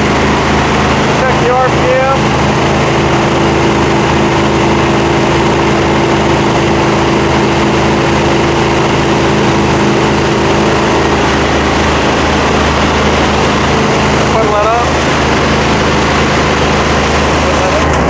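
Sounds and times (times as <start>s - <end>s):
pressure washer engine running: 0.0s - 18.0s.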